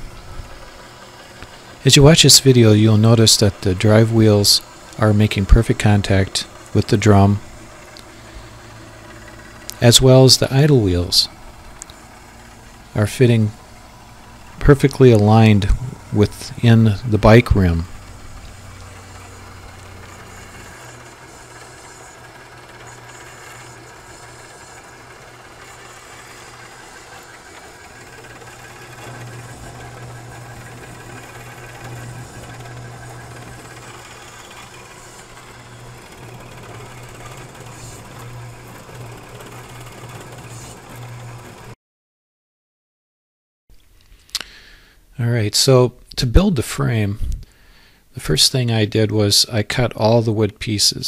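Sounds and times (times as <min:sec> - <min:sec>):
electric motor humming: 0:00.0 - 0:41.8.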